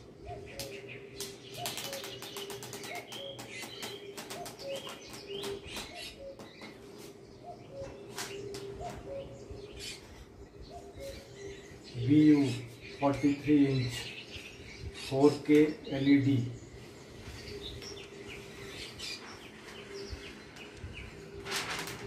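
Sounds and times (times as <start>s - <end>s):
birdsong from tv speakers: 0.0s - 22.0s.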